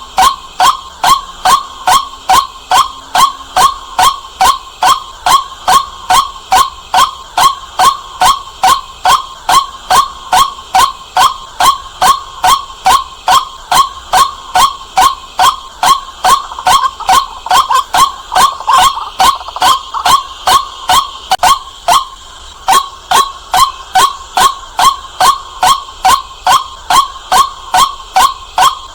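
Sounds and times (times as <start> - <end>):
bird calling sharp notes: 0.0 - 28.9.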